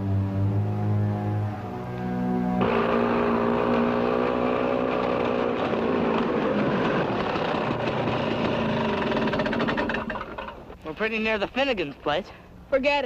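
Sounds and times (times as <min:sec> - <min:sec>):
motor vehicle engine running: 0:00.0 - 0:10.9.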